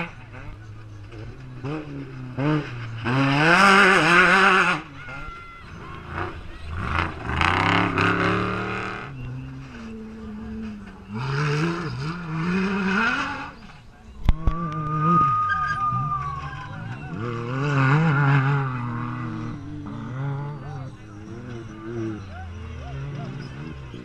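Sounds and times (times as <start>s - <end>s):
race vehicles passing at full throttle: 0.0s - 24.0s.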